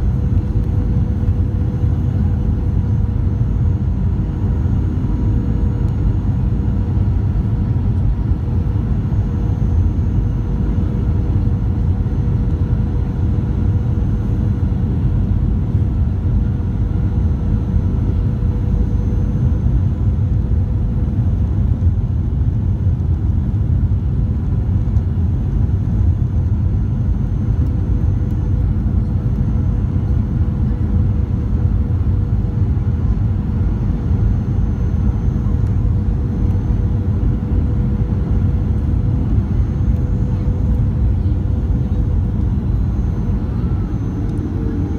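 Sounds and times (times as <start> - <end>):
faint steady hum: 0.0 - 44.9
jet engine rumble: 0.0 - 44.9.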